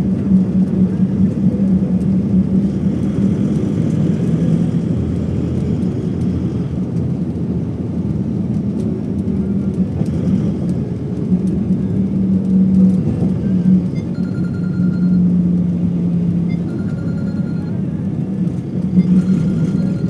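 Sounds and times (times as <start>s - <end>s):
airliner cabin drone: 0.0s - 20.0s.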